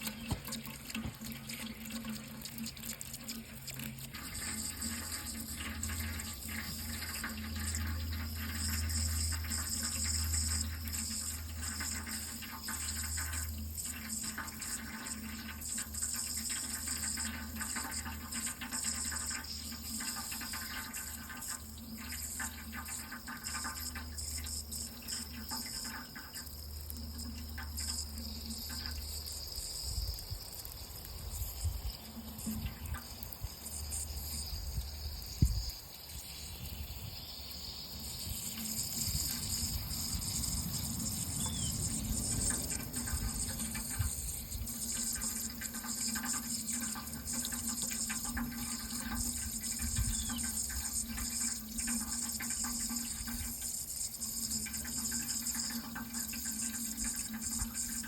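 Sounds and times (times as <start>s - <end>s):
water running: 0.0s - 58.0s.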